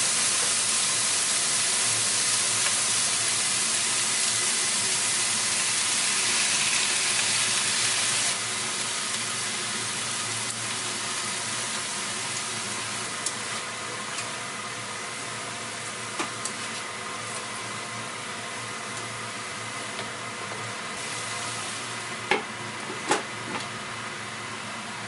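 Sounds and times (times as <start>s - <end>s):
vegetables sizzling in oil: 0.0s - 22.3s.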